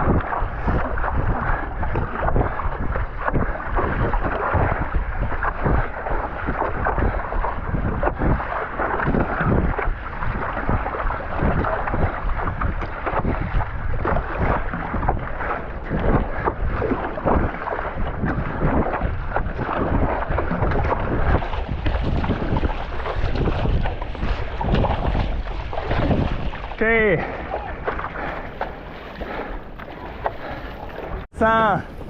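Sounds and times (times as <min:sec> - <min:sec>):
water splashing against paddleboard: 0:00.0 - 0:32.0
wind buffeting microphone: 0:00.0 - 0:32.0.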